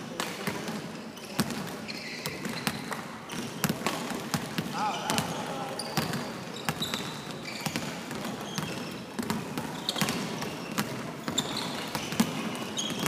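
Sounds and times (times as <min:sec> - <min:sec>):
sneakers squeaking: 0:01.1 - 0:13.0
basketball bouncing on wood floor: 0:01.4 - 0:13.0.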